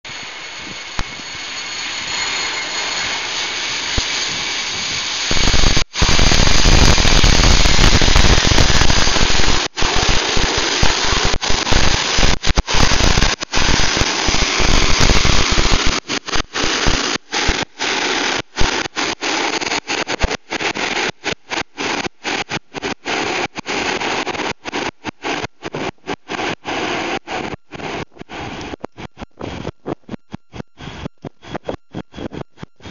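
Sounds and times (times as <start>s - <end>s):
jet engine whine: 0.1s - 32.9s
jet landing rumble: 0.1s - 32.9s.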